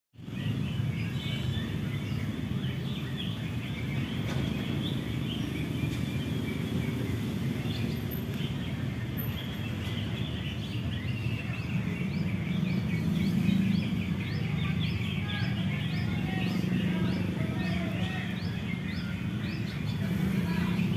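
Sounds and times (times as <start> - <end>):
bird singing chirps and whistles: 0.2 - 20.9.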